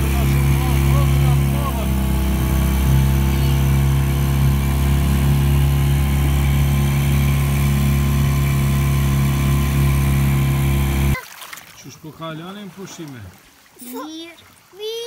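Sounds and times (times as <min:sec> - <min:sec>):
outboard motor running: 0:00.0 - 0:14.4.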